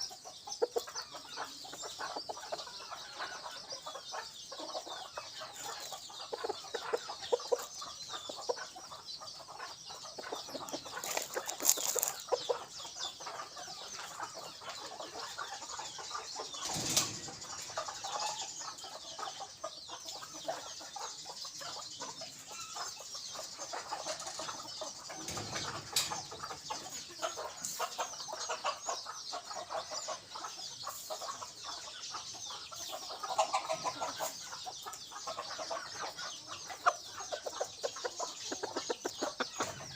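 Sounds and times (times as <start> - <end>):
junglefowl clucking: 0.0 - 39.9.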